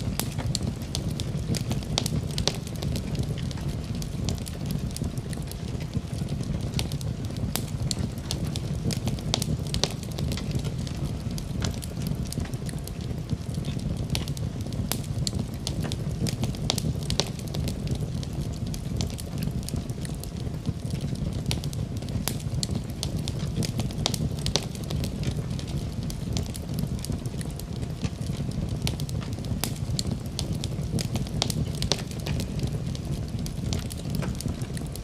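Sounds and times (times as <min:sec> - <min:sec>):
low rumble of flame: 0:00.0 - 0:35.0
wood fire crackling and popping: 0:00.0 - 0:35.0.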